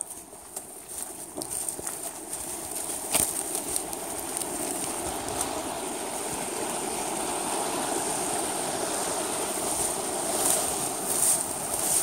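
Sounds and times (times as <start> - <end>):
reed stalks rustling: 0.0 - 12.0
river water rushing: 2.1 - 12.0.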